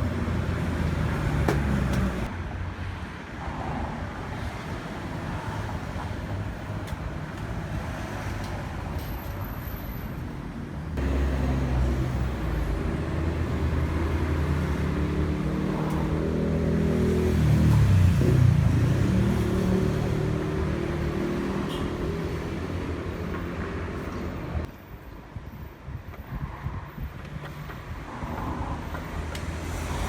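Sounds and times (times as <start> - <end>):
tyre and road noise: 0.0 - 30.0.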